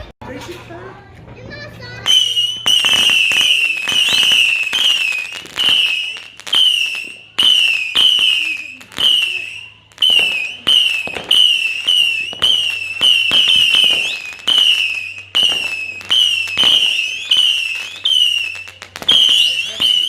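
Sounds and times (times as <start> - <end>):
firework whistling shots: 1.9 - 20.0.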